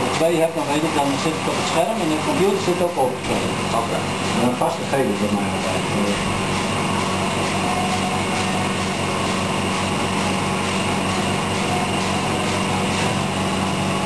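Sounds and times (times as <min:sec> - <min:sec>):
motor or fan humming with hiss: 0:00.0 - 0:14.0.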